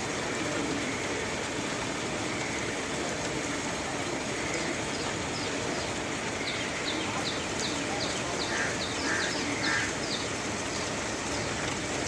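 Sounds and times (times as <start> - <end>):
heavy rain: 0.0 - 12.0
road vehicle noise: 0.0 - 12.0.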